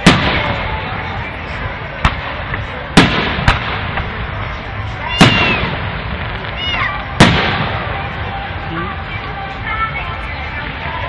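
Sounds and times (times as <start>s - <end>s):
fireworks bangs: 0.0s - 9.5s.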